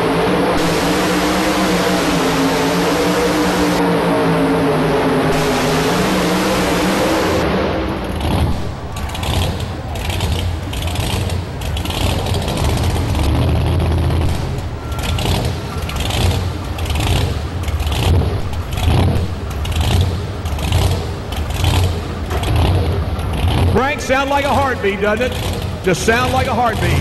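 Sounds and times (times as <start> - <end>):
truck engine idling with lope: 0.0 - 27.0.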